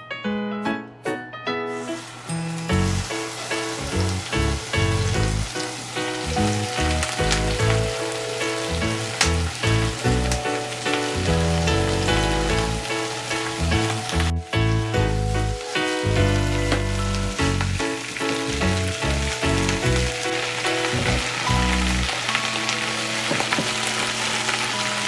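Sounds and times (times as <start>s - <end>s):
background music: 0.0s - 25.0s
food sizzling in a pan: 1.7s - 25.0s.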